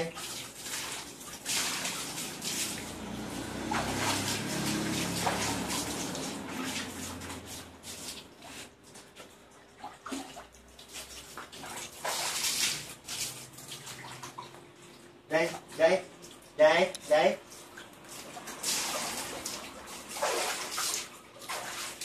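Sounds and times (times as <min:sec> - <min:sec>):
garden hose running: 0:00.0 - 0:09.3, 0:10.1 - 0:22.0
water splashing in plastic tub: 0:00.0 - 0:22.0.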